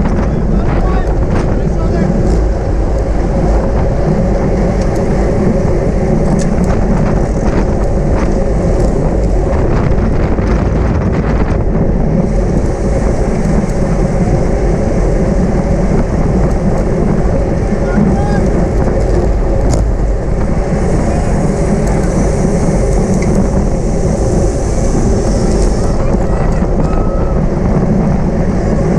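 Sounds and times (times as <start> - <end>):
road and tyre rumble: 0.0 - 28.9
wind rush over microphone: 0.0 - 28.9.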